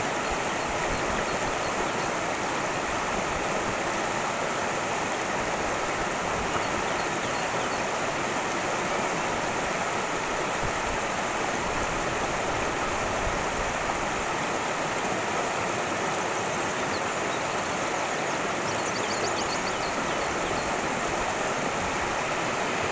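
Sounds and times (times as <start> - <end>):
stream rushing over rocks: 0.0 - 22.9.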